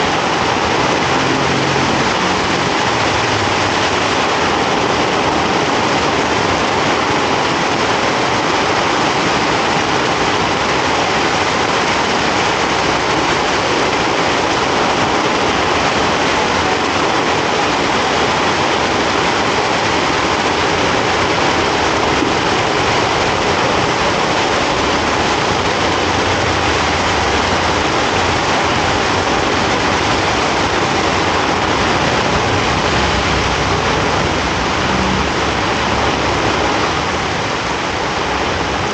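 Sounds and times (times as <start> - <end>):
heavy rain pouring on street: 0.0 - 38.9
vehicles passing on wet road: 0.0 - 38.9.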